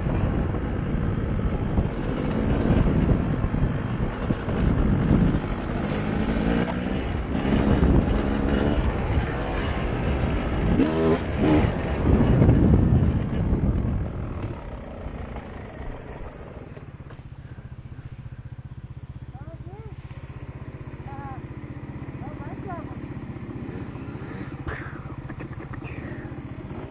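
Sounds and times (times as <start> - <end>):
dirt bike engine running: 0.0 - 26.9.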